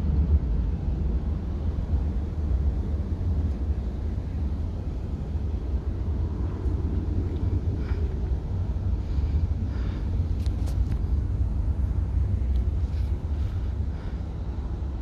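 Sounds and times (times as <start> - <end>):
distant jet engines rumbling: 0.5 - 15.0.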